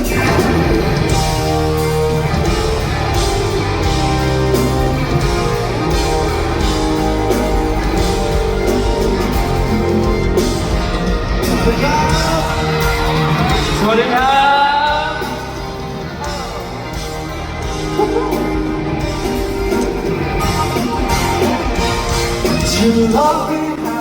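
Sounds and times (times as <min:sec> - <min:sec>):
bass guitar: 0:00.0 - 0:24.0
drums: 0:00.0 - 0:24.0
electric guitar: 0:00.0 - 0:24.0.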